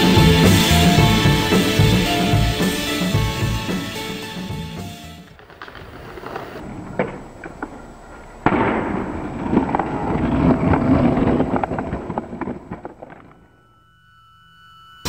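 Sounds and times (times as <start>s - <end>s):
skateboard wheels rolling on pavement: 0.0s - 13.6s.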